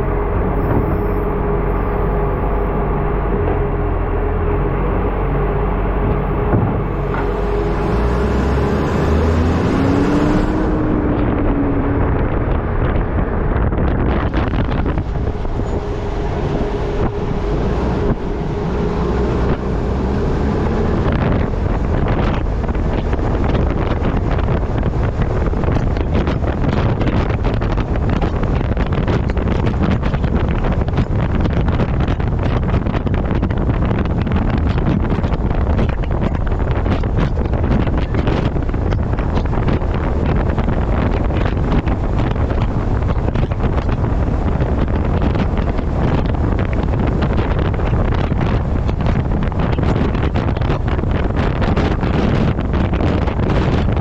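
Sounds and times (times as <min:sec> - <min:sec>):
road and engine drone: 0:00.0 - 0:54.0
wind buffeting microphone: 0:00.0 - 0:54.0.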